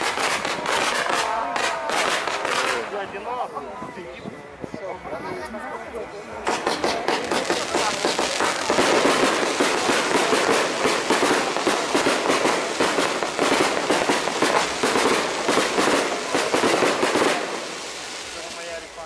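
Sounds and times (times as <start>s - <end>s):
fireworks crackling: 0.0s - 3.5s, 6.2s - 19.0s.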